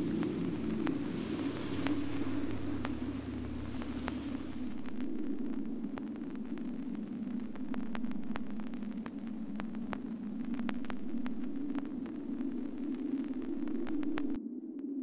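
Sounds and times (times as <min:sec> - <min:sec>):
low droning hum: 0:00.0 - 0:14.4
faint clicks and crackles: 0:00.0 - 0:15.0.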